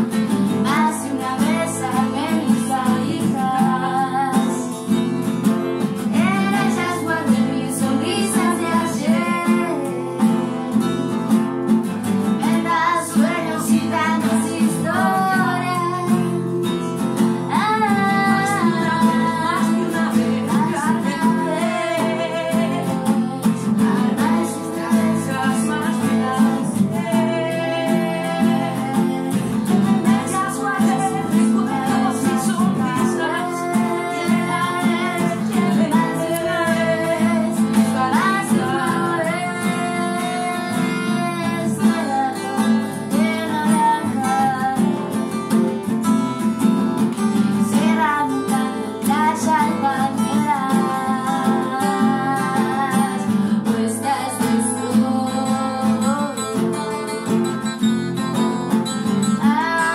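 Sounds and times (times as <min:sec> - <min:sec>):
strummed acoustic guitars: 0:00.0 - 0:59.9
women singing together: 0:00.5 - 0:04.9, 0:06.0 - 0:10.7, 0:12.3 - 0:16.4, 0:17.5 - 0:45.2, 0:47.6 - 0:57.2, 0:59.4 - 0:59.9.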